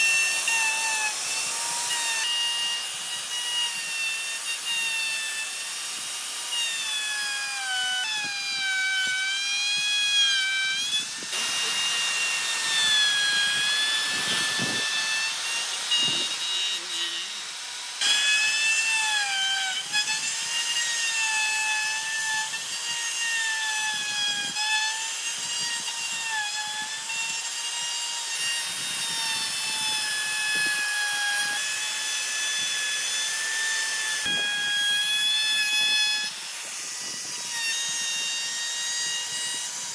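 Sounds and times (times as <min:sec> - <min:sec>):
router motor whine: 0:00.0 - 0:39.9
wood being cut: 0:00.0 - 0:39.9.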